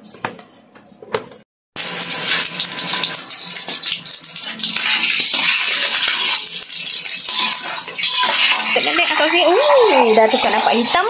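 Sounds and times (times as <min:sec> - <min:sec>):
crabs sizzling in hot oil: 0:01.8 - 0:11.0.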